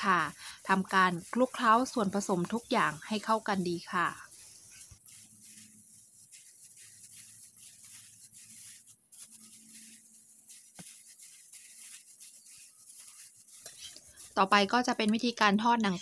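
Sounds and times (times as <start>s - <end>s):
gloved hand rustling and squishing: 0.0s - 15.7s.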